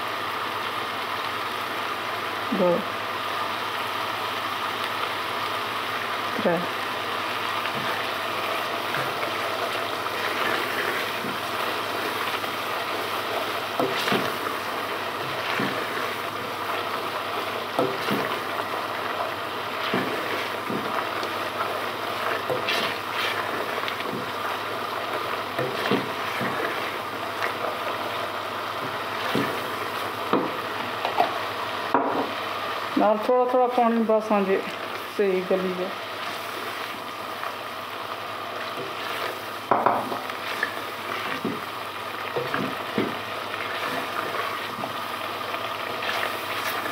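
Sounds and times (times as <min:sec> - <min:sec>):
masala sizzling in a pot: 0:00.0 - 0:46.9.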